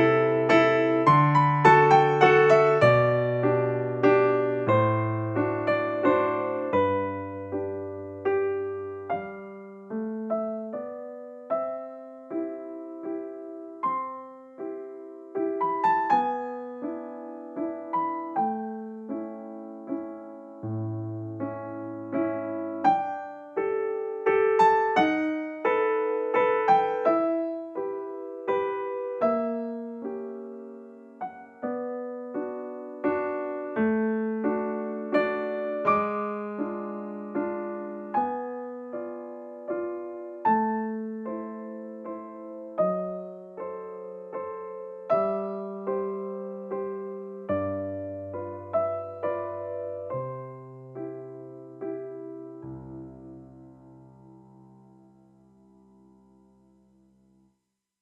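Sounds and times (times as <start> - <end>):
soft piano music: 0.0 - 57.6.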